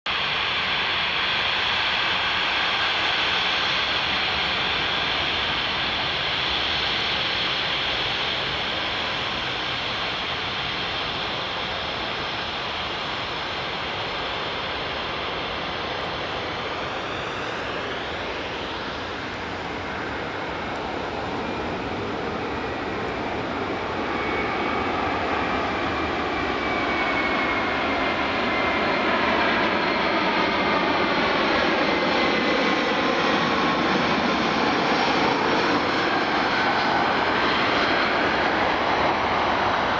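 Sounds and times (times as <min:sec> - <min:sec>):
jet engine roar with whine: 0:00.1 - 0:39.9.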